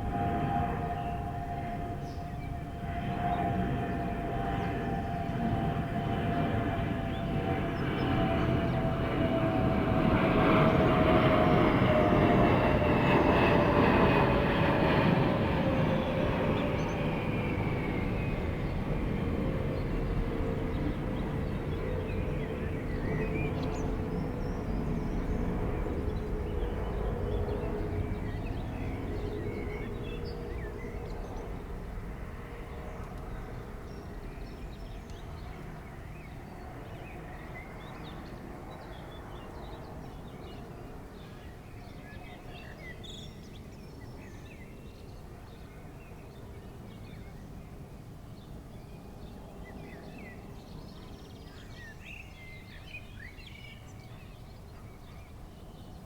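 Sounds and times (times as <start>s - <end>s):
jet airliner passing overhead: 0.0s - 56.0s.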